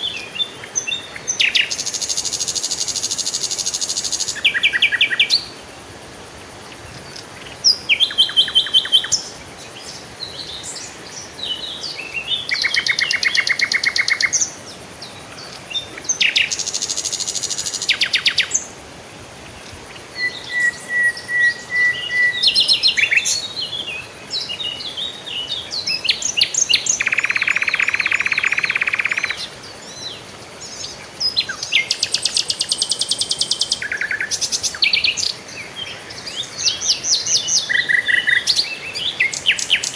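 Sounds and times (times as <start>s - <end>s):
songbirds singing: 0.0s - 5.8s, 6.4s - 39.9s
dense buzzing bird trill: 6.7s - 18.8s, 19.5s - 39.9s.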